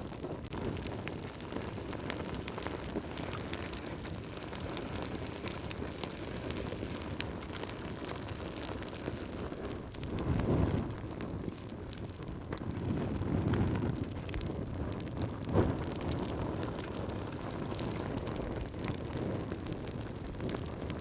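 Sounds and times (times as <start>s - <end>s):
low whoosh of fire: 0.0s - 21.0s
wood fire crackling and popping: 0.0s - 21.0s.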